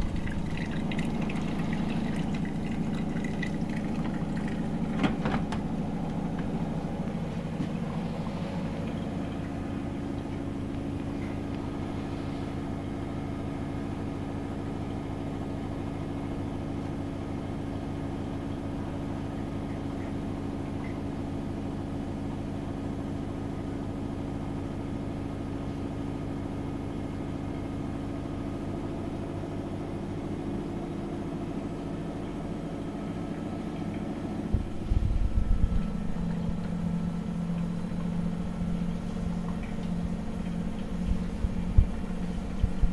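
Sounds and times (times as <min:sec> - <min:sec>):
washing machine humming: 0:00.0 - 0:42.9.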